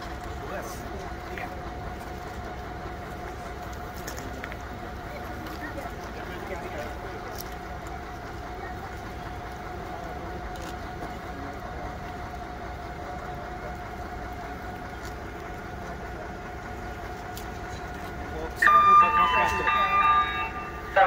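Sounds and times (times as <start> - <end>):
diesel railcar idling hum: 0.0 - 21.0.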